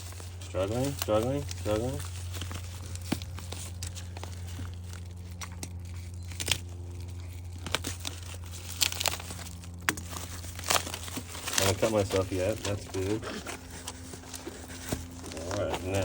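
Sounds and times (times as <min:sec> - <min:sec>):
plastic wrap crinkling: 0:00.0 - 0:16.0
steady low hum: 0:00.0 - 0:16.0
tape tearing: 0:00.0 - 0:16.0.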